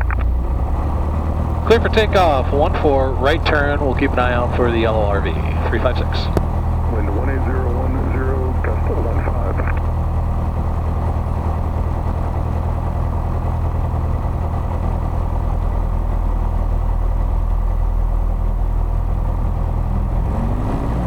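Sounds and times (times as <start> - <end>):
light aircraft engine running: 0.0 - 21.0.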